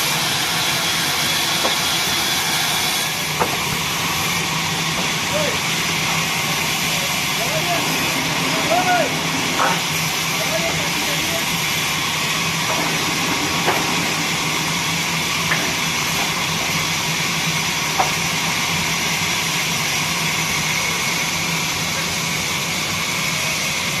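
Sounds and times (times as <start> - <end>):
band saw running: 0.0 - 24.0.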